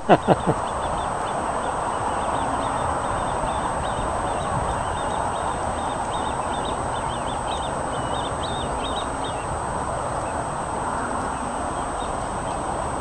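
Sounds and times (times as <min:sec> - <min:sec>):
songbird chirping and warbling: 0:00.0 - 0:13.0
steady rushing noise: 0:00.0 - 0:13.0.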